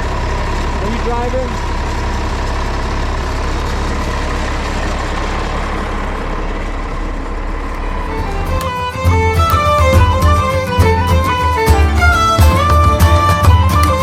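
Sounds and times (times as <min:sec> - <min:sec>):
vehicle engine low rumble: 0:00.0 - 0:14.0.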